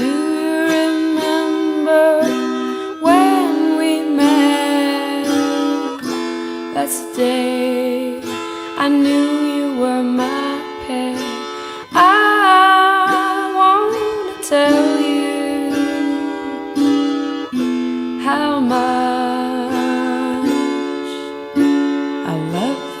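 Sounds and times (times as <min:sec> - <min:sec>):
plucked string instrument: 0:00.0 - 0:23.0.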